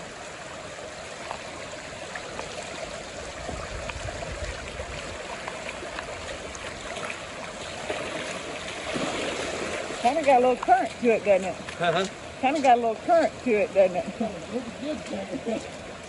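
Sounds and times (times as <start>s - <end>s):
floodwater rushing: 0.0s - 16.0s
water splashes and drips: 0.0s - 16.0s.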